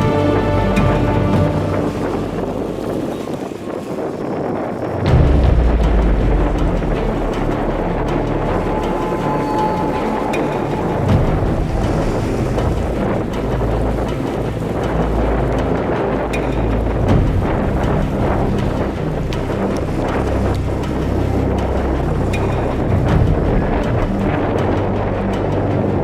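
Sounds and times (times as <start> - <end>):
sea noise: 0.0 - 26.0
wind buffeting microphone: 0.0 - 26.0.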